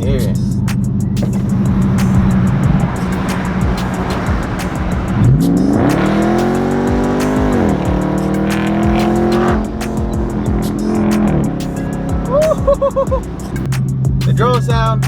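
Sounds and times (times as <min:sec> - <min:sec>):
background music with steady beat: 0:00.0 - 0:15.0
car engine revving: 0:00.0 - 0:15.0.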